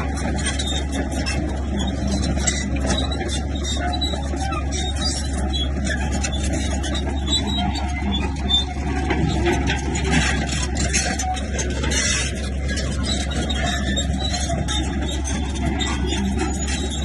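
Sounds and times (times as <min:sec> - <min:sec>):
bulldozer diesel engine running: 0:00.0 - 0:17.0
tracks and blade clanking: 0:00.0 - 0:17.0.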